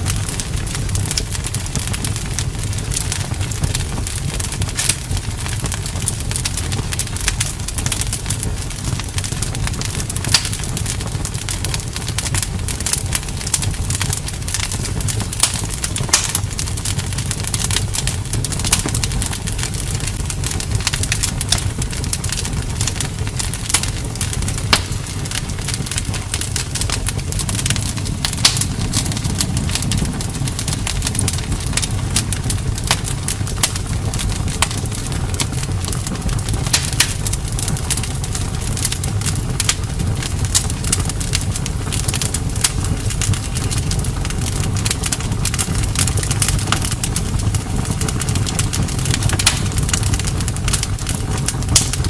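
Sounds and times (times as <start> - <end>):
campfire snaps and pops: 0.0 - 52.0
low rumble of flames: 0.0 - 52.0.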